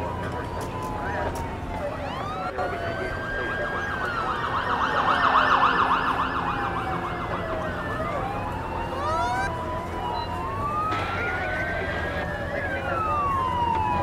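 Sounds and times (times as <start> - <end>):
fast yelping siren: 0.0 - 14.0
wailing sirens: 0.0 - 14.0.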